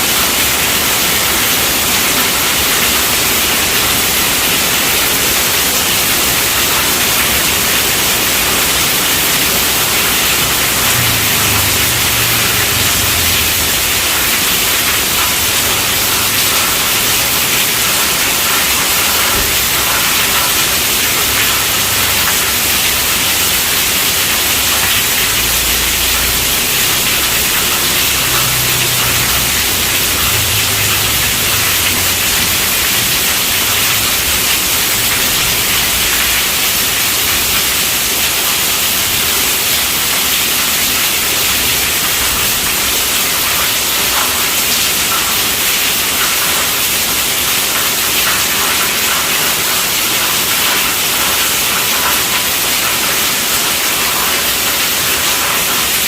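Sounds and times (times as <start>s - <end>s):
heavy rain on a tent roof: 0.0s - 56.0s.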